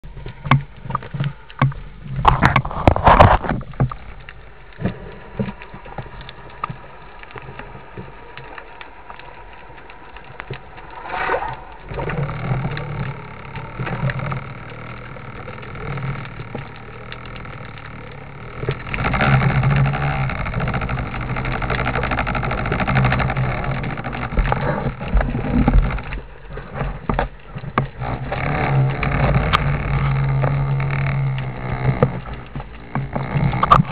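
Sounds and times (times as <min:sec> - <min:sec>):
boat engine hum underwater: 0:00.0 - 0:33.9.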